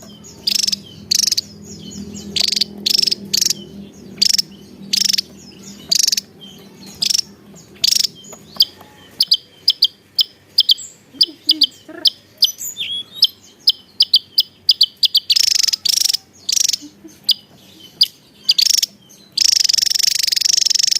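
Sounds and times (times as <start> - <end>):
bird harsh buzzy calls: 0.0 - 20.9
bird sharp high chirps: 0.0 - 20.9.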